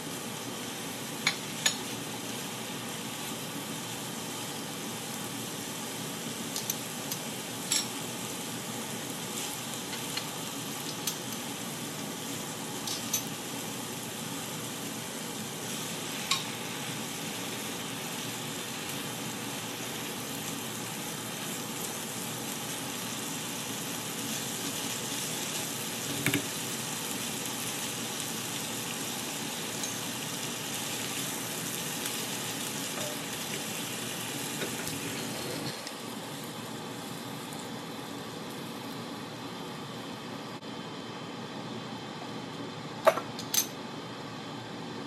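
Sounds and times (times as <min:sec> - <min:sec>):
food sizzling in a hot pan: 0:00.0 - 0:40.2.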